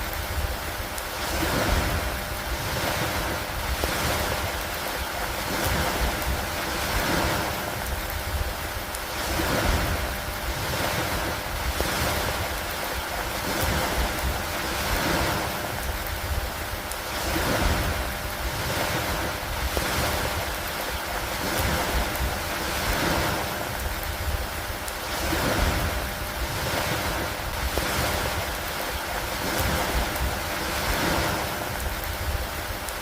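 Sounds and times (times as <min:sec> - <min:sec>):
rain on lake water: 0:00.0 - 0:33.0.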